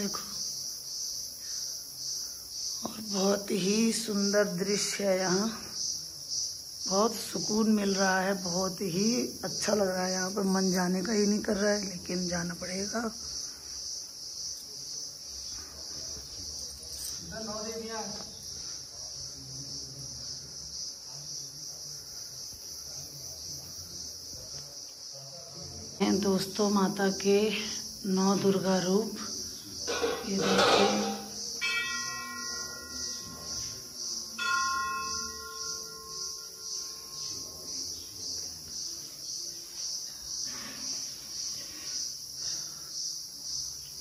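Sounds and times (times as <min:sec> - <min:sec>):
crickets chirping: 0:00.0 - 0:44.0
insects trilling: 0:00.0 - 0:44.0.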